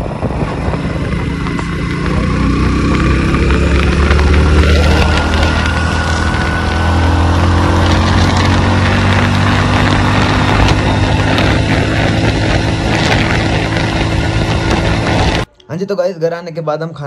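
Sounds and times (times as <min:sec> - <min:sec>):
motorcycle engine running: 0:00.0 - 0:15.5
wind and road noise: 0:00.0 - 0:15.5.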